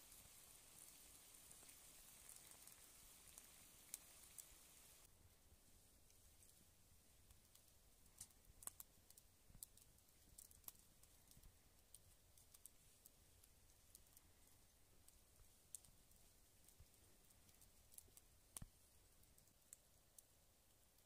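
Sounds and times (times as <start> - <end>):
wood fire crackling and popping: 0.0 - 5.1, 7.2 - 19.9.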